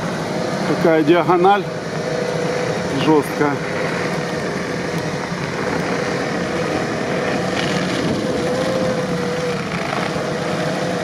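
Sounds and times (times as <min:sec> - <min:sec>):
truck engine under load: 0:00.0 - 0:11.0.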